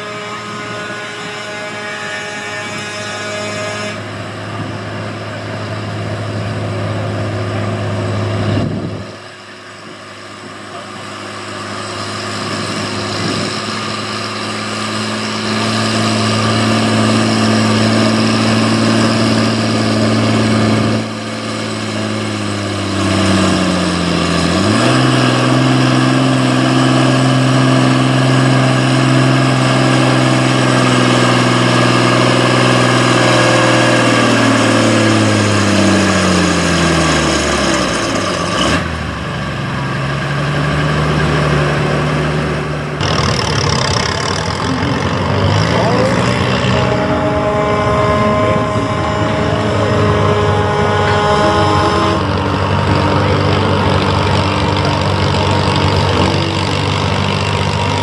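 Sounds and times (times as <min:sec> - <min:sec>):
tractor engine running hard: 0:00.0 - 0:58.0.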